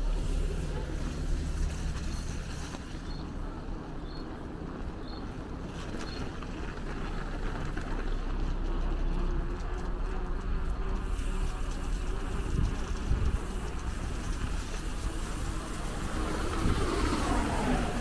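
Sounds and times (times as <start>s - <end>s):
city traffic rumble: 0.0s - 18.0s
wind buffeting microphone: 0.0s - 18.0s.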